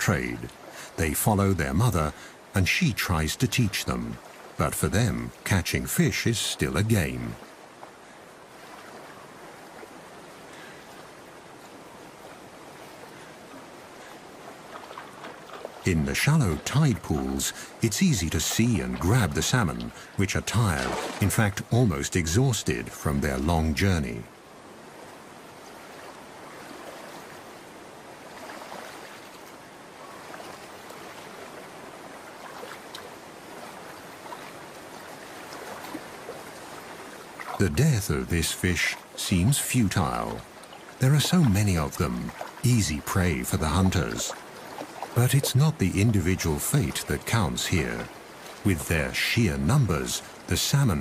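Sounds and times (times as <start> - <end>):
stream water running: 0.0 - 51.0.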